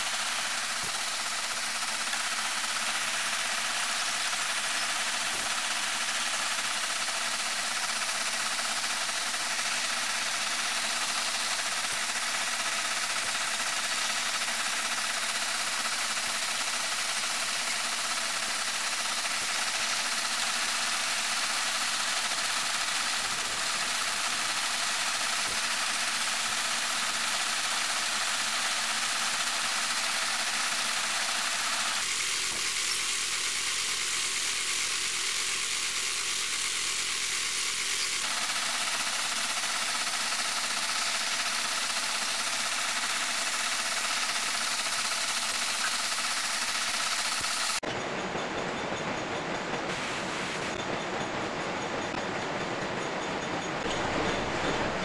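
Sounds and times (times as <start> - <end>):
metal lathe cutting plastic rod: 0.0 - 47.9.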